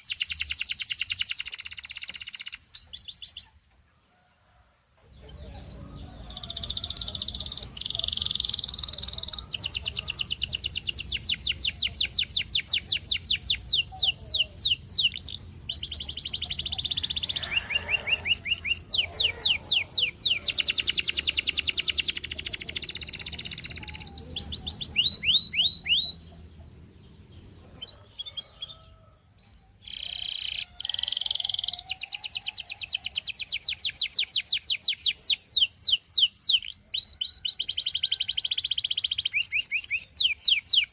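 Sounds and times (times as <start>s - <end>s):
canary singing trills: 0.0s - 3.7s, 5.1s - 40.9s.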